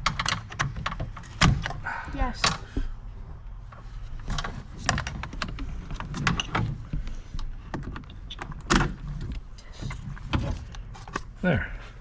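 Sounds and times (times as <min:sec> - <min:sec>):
car door lock parts rattling: 0:00.0 - 0:02.7, 0:04.2 - 0:11.4.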